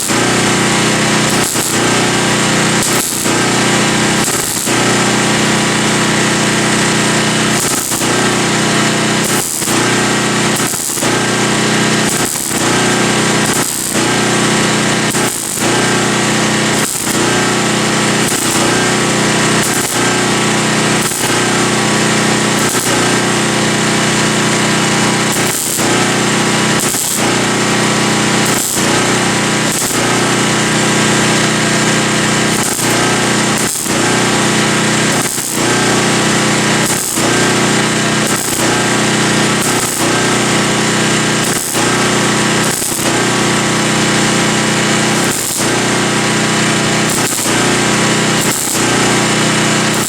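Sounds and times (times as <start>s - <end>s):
power tool running: 0.0s - 50.0s.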